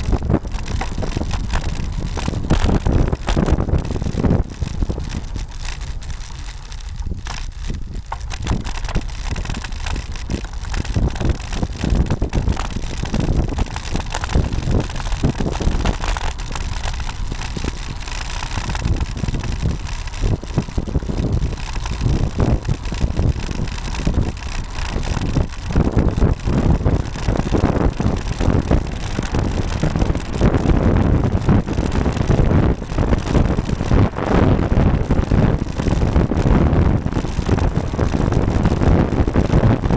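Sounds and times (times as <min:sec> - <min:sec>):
bicycle knocks and rattles: 0:00.0 - 0:39.9
wind on microphone: 0:00.0 - 0:39.9.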